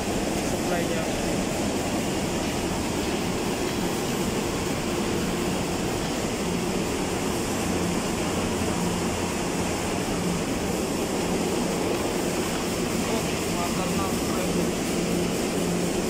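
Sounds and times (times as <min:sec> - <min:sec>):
air conditioner fan whoosh: 0:00.0 - 0:16.0.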